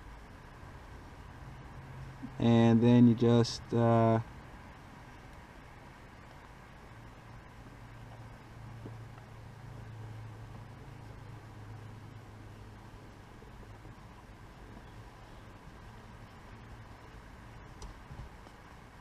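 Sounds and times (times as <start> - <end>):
background hiss: 0.0 - 19.0
low hum: 0.0 - 19.0.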